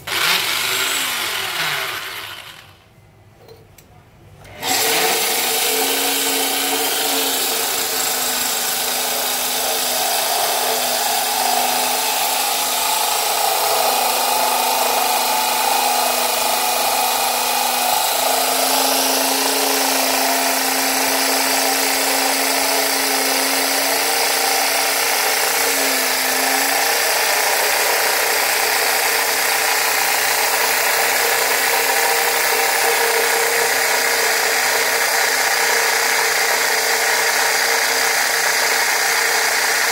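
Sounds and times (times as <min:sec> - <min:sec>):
drill grinding into stone: 0:00.0 - 0:02.8, 0:04.5 - 0:39.9.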